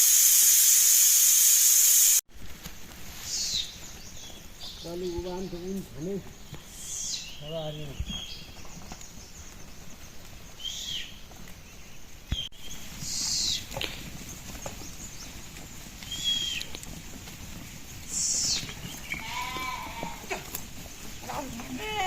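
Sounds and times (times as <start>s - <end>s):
outdoor background noise: 0.0s - 22.0s
bird calling: 3.2s - 22.0s.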